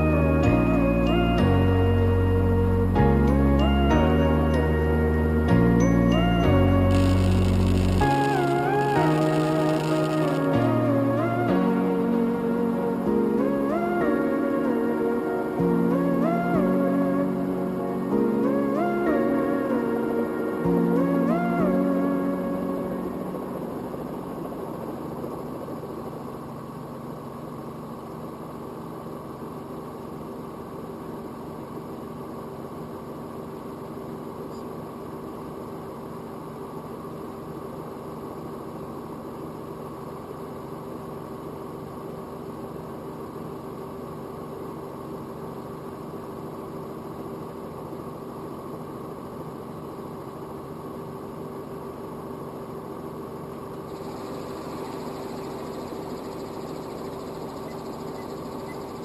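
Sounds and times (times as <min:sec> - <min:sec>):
helicopter engine and rotors droning: 0:03.5 - 0:35.6, 0:40.6 - 0:59.0.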